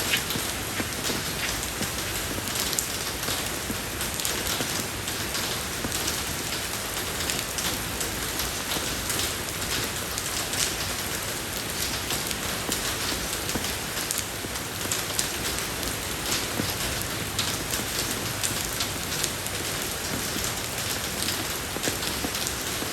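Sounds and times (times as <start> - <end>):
rain falling on road: 0.0 - 22.9.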